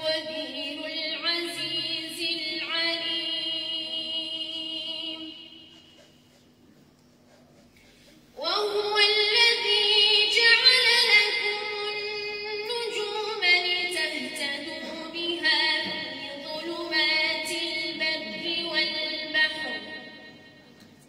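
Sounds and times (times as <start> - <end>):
woman reciting melodically: 0.0 - 6.3, 8.0 - 20.6.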